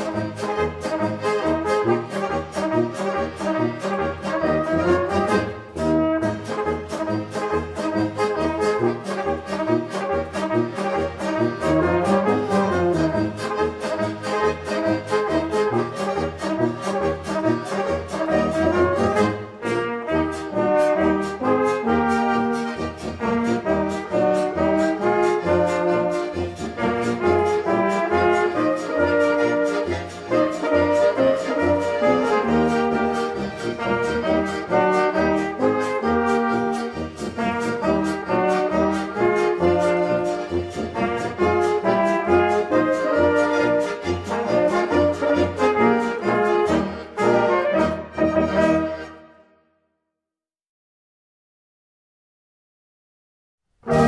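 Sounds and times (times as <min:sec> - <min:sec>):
trombones and trumpets playing: 0:00.0 - 0:49.6.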